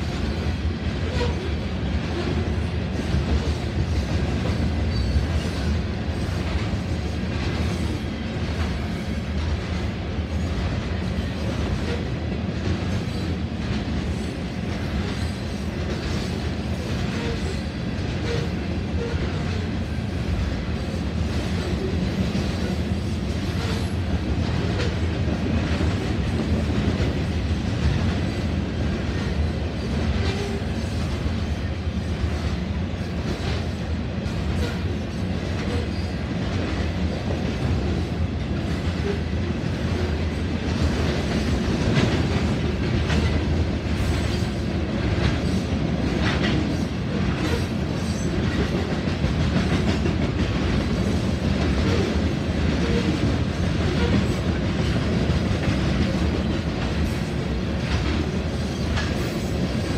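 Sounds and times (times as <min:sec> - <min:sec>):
freight train rumbling past: 0:00.0 - 0:59.9
train wheels clacking: 0:00.0 - 0:59.9.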